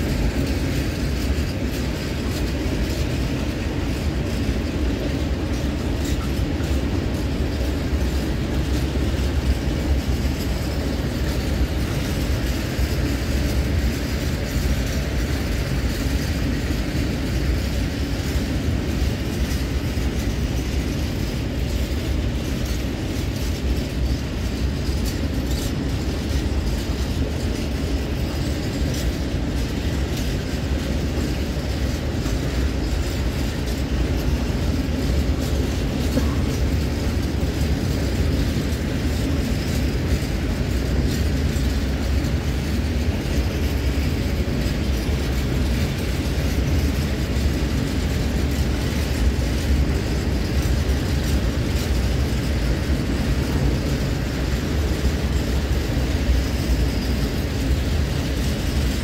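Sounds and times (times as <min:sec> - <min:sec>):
faint clicking from wagons: 0:00.0 - 0:59.0
train wheels rumbling on rails: 0:00.0 - 0:59.0.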